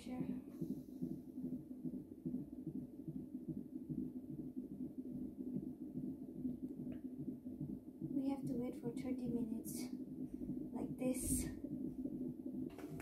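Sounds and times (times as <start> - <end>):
fast fetal heartbeat pulse: 0.0 - 13.0.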